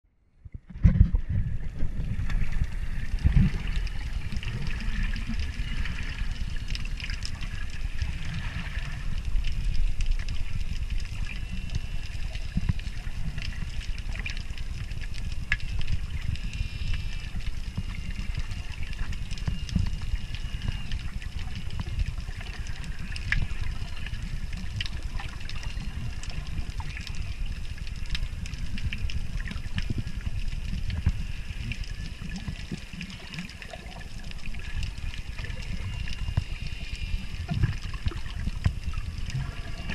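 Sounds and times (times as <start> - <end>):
faint underwater clicks and crackles: 0.2 - 39.9
underwater rumble of moving water: 0.2 - 39.9.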